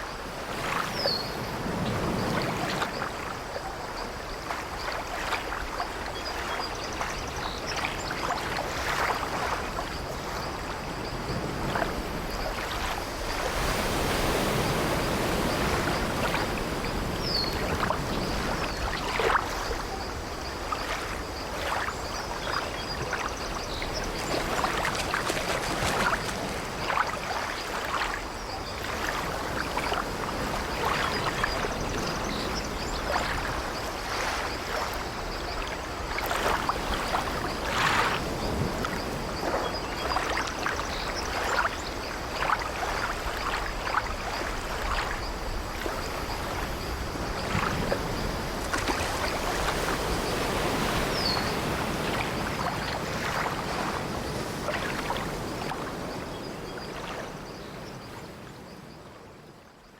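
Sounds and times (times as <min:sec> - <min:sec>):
sea waves washing: 0:00.0 - 0:57.4.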